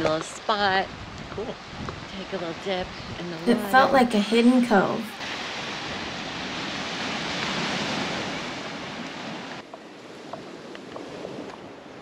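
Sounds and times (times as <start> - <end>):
ocean surf washing onto beach: 1.5 - 12.0.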